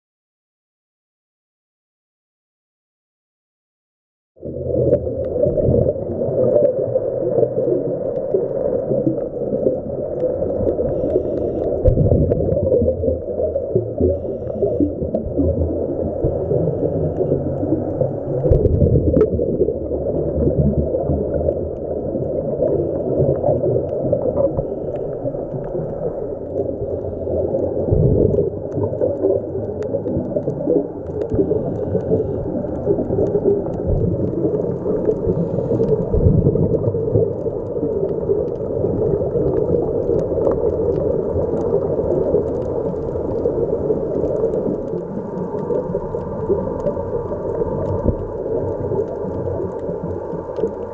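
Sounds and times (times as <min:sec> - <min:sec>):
exhaled bubbles gurgling: 0:04.4 - 0:50.9
muffled underwater noise: 0:04.5 - 0:50.9.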